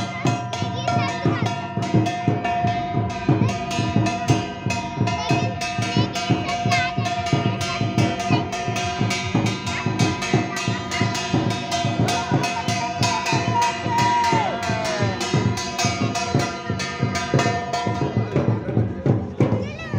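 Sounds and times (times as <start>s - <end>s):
hand cymbals clashing: 0.0s - 19.7s
drums: 0.0s - 19.9s.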